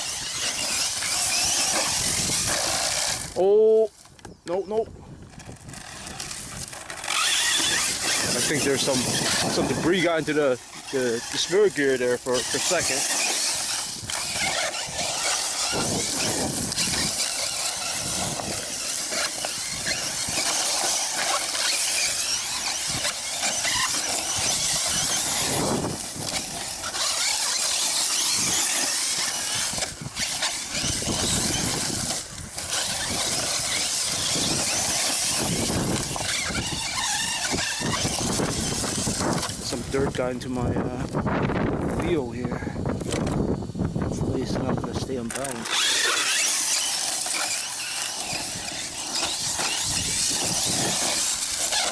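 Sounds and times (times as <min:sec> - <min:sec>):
rc car motor whine: 0:00.0 - 0:04.1, 0:05.2 - 0:51.9
tyres on gravel: 0:00.0 - 0:43.5, 0:44.1 - 0:51.9.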